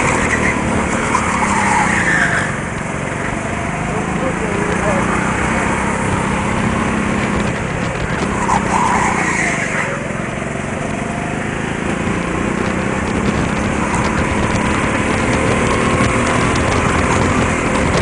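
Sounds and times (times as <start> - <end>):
go-kart engine revving: 0.0 - 18.0.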